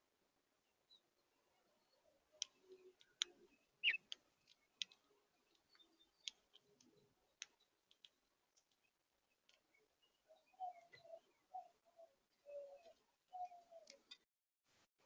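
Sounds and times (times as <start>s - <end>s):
bird chirp: 0.6s - 14.2s
birds pecking seed: 1.0s - 14.2s.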